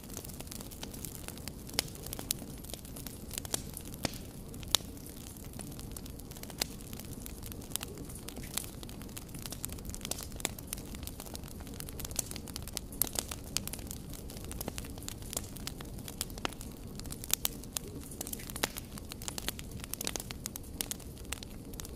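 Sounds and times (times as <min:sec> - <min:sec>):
low rush of flame: 0:00.0 - 0:21.9
wood fire crackling and popping: 0:00.0 - 0:21.9.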